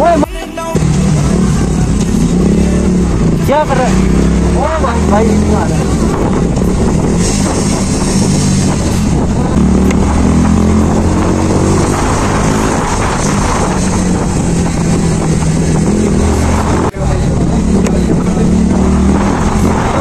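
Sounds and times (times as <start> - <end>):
motorcycle engine running: 0.0 - 20.0
wind rushing over microphone: 0.8 - 20.0.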